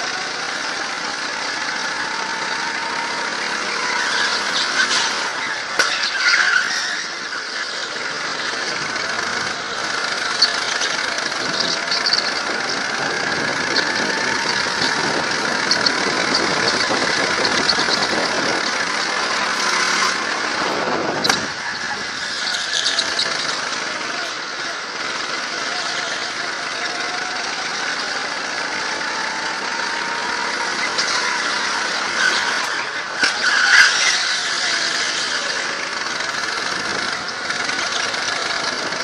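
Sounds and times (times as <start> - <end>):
go-kart engine running: 0.0 - 39.0
tyres squealing: 0.0 - 39.0.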